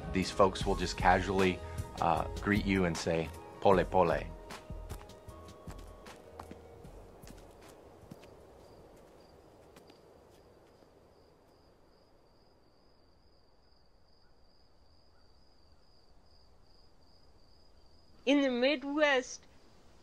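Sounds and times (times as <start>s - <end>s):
crickets chirping faintly: 0.6s - 20.0s.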